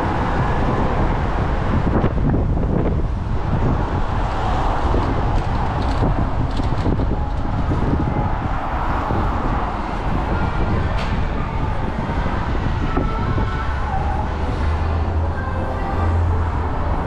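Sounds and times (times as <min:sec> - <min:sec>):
street traffic: 0:00.0 - 0:17.0
wind buffeting microphone: 0:00.0 - 0:17.0.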